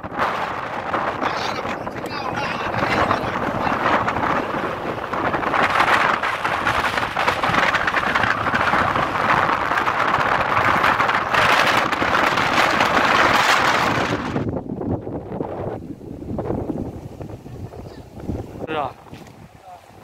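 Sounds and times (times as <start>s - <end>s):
choppy water: 0.0s - 20.0s
strong wind on microphone: 0.0s - 20.0s.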